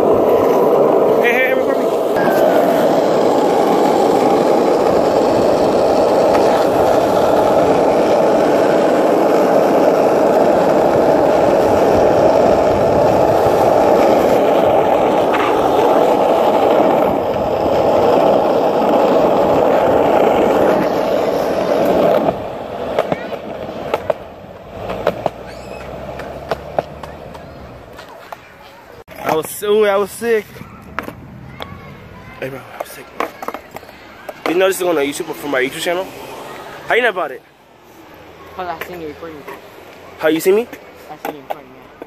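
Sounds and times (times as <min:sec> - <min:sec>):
skateboard wheels rolling on asphalt: 0:00.0 - 0:42.0.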